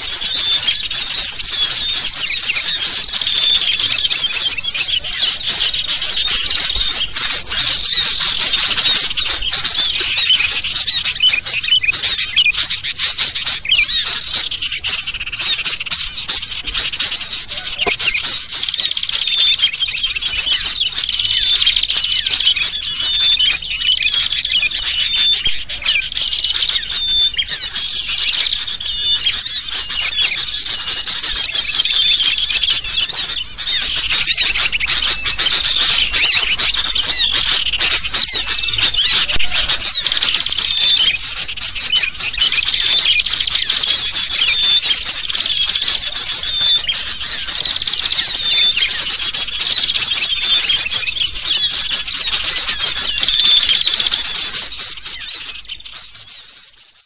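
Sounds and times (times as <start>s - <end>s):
bulbuls calling: 0.0s - 57.0s
small birds chirping: 0.0s - 57.0s.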